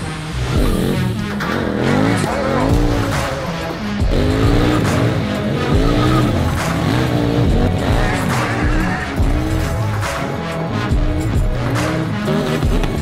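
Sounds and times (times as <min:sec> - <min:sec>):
background music with steady beat: 0:00.0 - 0:13.0
motorcycle engine revving: 0:00.0 - 0:13.0.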